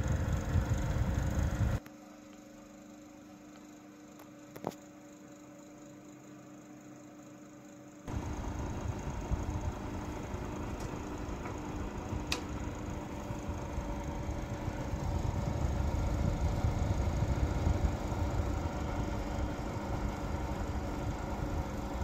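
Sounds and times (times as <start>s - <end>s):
electric heater rumble and hum: 0.0s - 22.0s.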